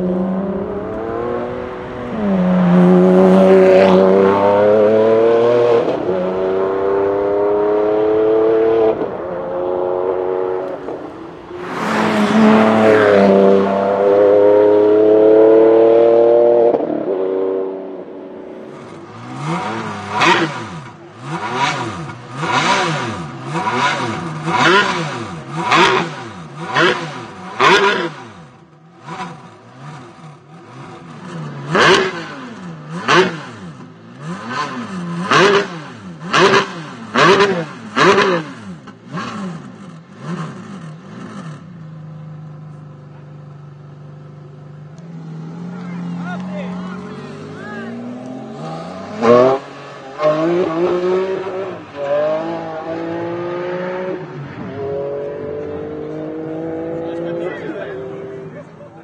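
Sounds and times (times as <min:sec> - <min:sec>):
engine revving while standing: 0:00.0 - 0:41.8, 0:44.9 - 0:58.9
car engine accelerating hard: 0:00.0 - 0:59.0.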